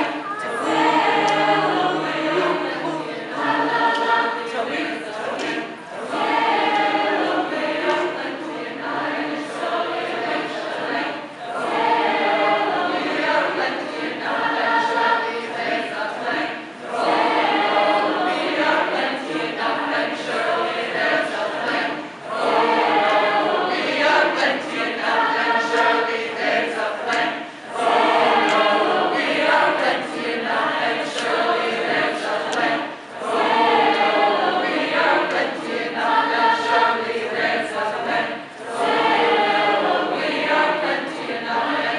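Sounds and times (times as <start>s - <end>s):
a cappella chorus singing: 0.0s - 41.9s.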